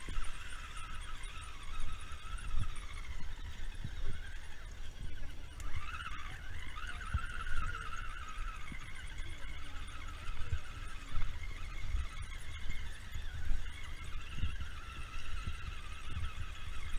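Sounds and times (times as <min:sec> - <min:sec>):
drone propellers whining: 0:00.0 - 0:16.9
wind buffeting microphone: 0:00.0 - 0:16.9.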